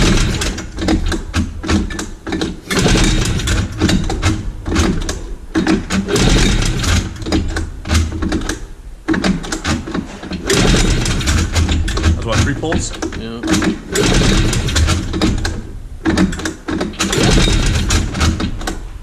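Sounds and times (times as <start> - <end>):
engine cranking by pull rope: 0.0 - 18.8.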